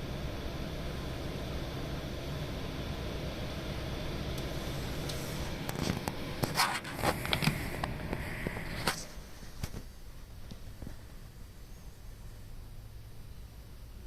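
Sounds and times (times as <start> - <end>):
air conditioner fan noise: 0.0 - 14.0.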